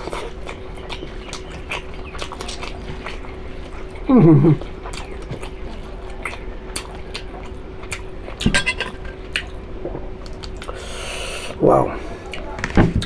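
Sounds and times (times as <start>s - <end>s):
wet chewing: 0.0s - 10.9s.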